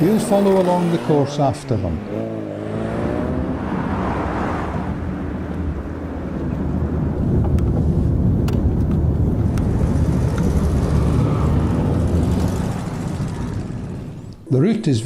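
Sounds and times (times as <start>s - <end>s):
car engine and road rumble: 0.0s - 14.7s.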